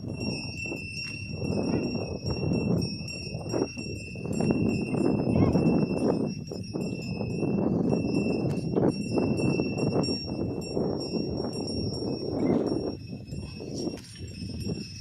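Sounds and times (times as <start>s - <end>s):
bull neck bells jingling: 0.0s - 15.0s.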